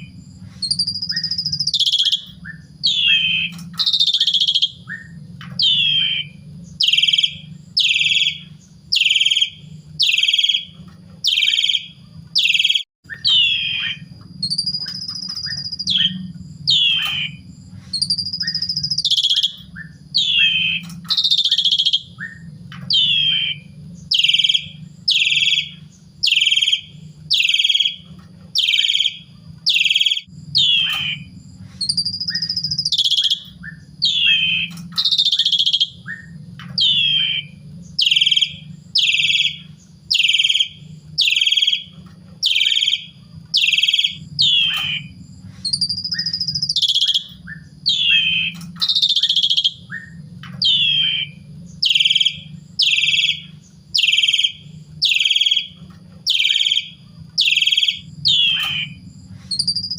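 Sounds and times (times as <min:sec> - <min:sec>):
low steady hum: 0:00.0 - 0:59.9
starling calling loudly: 0:00.0 - 0:59.9.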